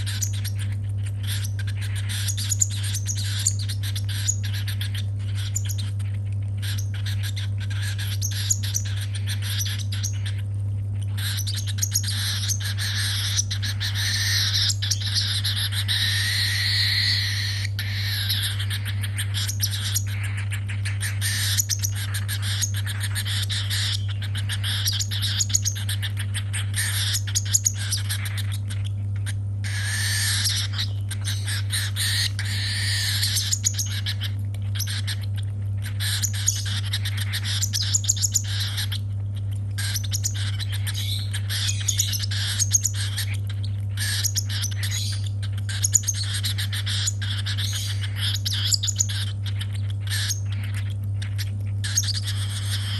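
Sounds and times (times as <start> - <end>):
baby bird raspy begging calls: 0.0 - 10.4, 11.0 - 52.9
steady low hum: 0.0 - 52.9.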